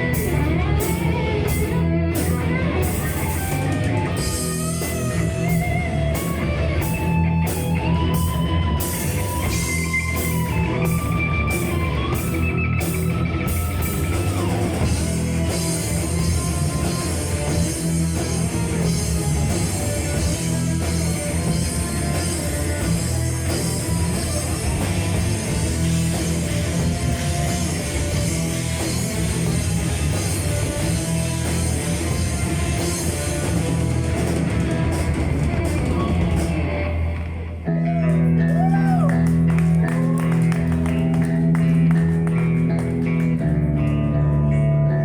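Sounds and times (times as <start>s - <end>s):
clean picked guitar: 0.0s - 45.0s
metal band playing live: 0.0s - 45.0s.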